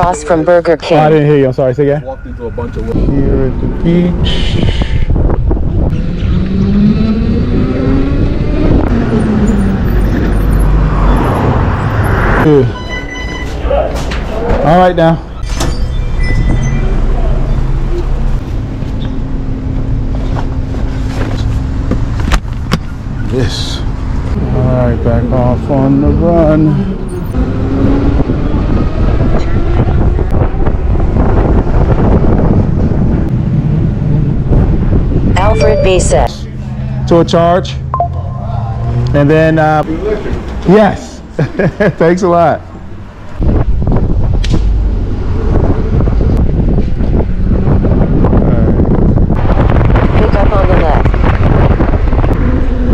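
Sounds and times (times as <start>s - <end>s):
wind and road rumble: 0.0s - 52.9s.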